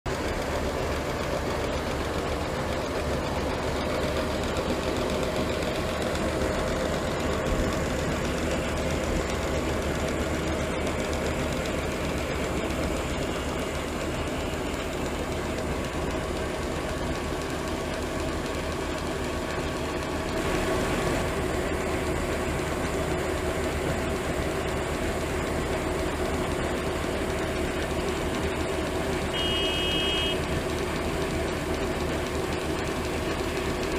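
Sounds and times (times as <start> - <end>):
grain unloader auger running: 0.1 - 33.9
tractor engine under load: 0.1 - 33.9.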